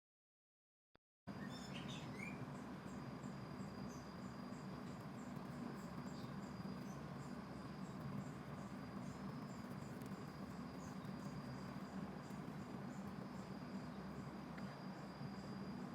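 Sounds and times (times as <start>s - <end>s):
bird chirps: 1.3s - 15.5s
high insect drone: 1.3s - 15.9s
insect chirping: 1.3s - 15.9s
low hum: 1.5s - 15.9s.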